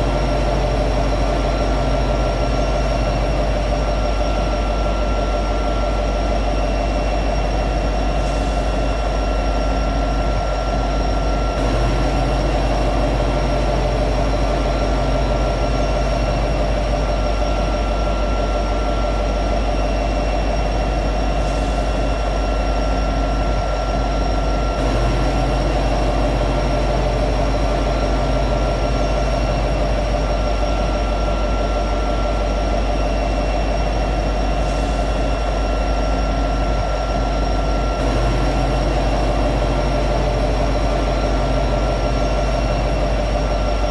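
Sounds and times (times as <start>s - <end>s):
diesel locomotive idling drone: 0.0s - 43.9s
low hum: 0.0s - 43.9s.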